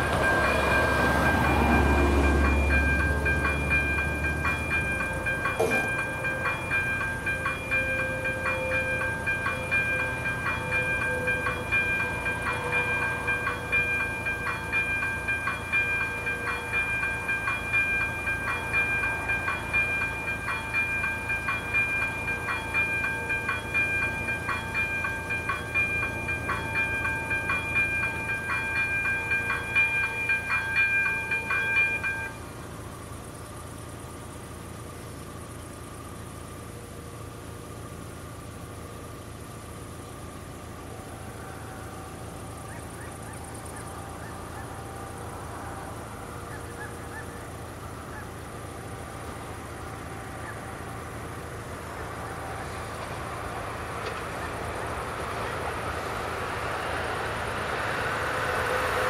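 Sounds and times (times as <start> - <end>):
level crossing warning bell ringing: 0.0 - 59.0.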